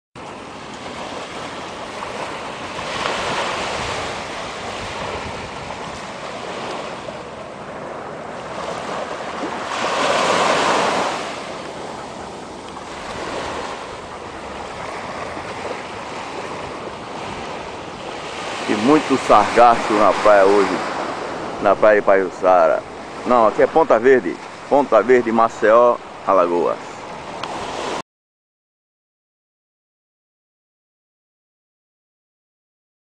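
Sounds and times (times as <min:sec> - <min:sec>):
surf breaking on beach: 0:00.2 - 0:28.0.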